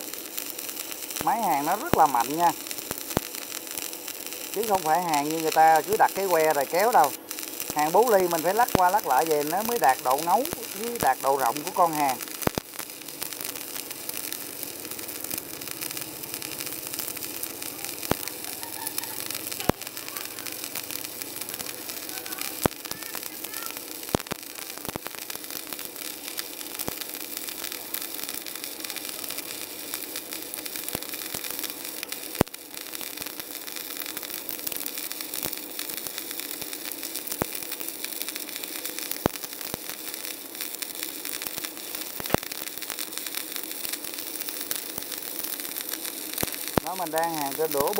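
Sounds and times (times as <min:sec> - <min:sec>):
welding arc crackling hiss: 0:00.0 - 0:47.9.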